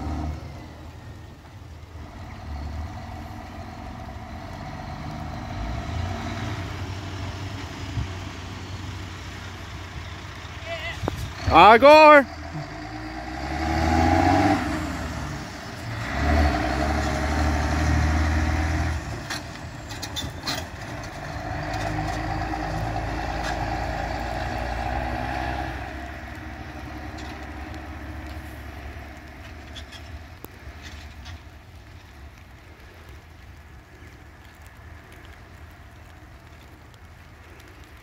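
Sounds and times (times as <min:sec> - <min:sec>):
lorry diesel engine accelerating: 0:00.0 - 0:38.0.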